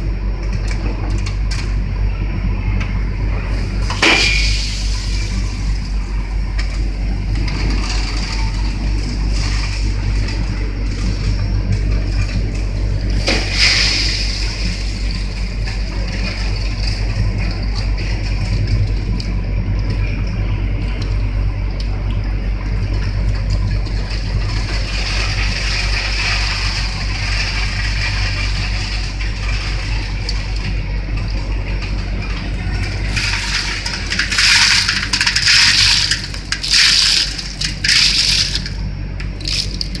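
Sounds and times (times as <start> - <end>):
machinery motor and conveyor hum: 0.0 - 40.0.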